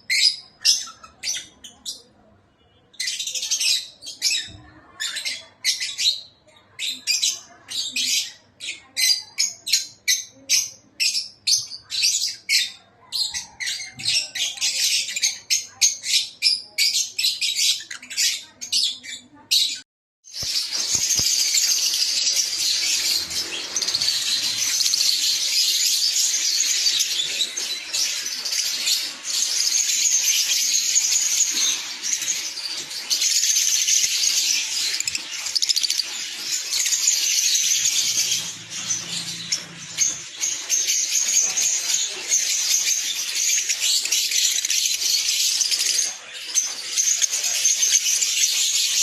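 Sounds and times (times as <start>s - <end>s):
flock of birds chirping: 0.0s - 49.0s.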